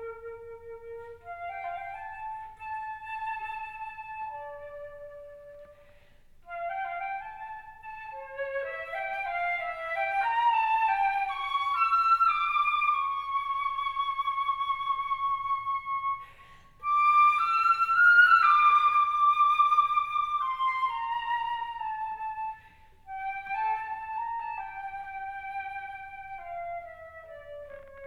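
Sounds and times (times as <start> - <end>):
solo flute melody: 0.0 - 28.0.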